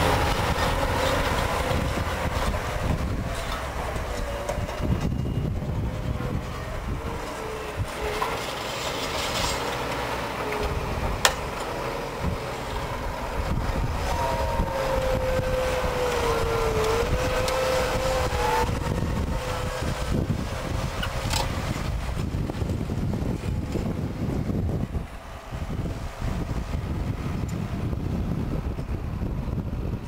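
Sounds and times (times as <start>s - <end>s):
wavering whine: 0.0s - 9.6s, 10.3s - 28.0s
tractor engine under load: 0.0s - 30.0s.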